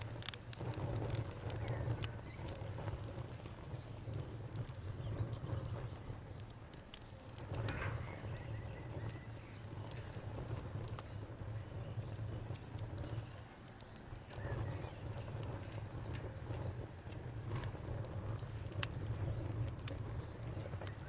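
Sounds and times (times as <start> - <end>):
campfire crackling: 0.0 - 21.0
crickets chirping: 0.0 - 21.0.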